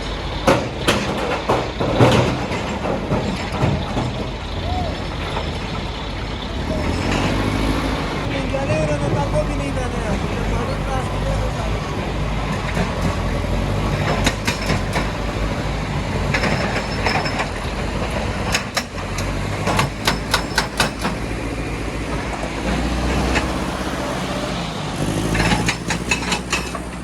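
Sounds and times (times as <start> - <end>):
sharp clanks and knocks: 0.0 - 9.7, 10.5 - 23.8, 25.0 - 27.0
heavy diesel machinery running: 0.0 - 27.0.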